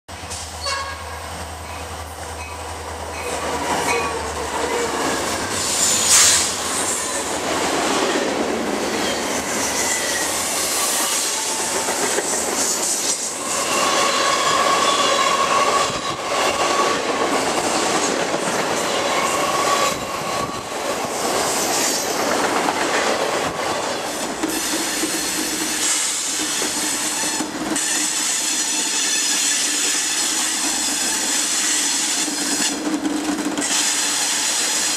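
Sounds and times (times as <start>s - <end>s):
diesel locomotives passing: 0.1s - 34.9s
freight train wheels clattering on rail: 0.1s - 34.9s
train wheel squeal: 1.6s - 7.4s, 8.0s - 22.2s, 23.7s - 32.8s, 33.6s - 34.9s.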